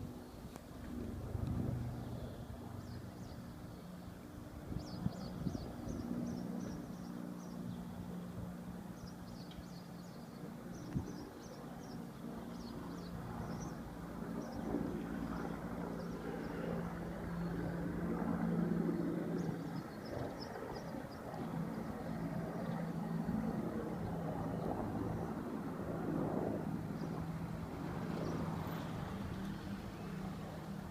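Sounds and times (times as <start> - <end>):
helicopter drone: 0.0 - 30.9.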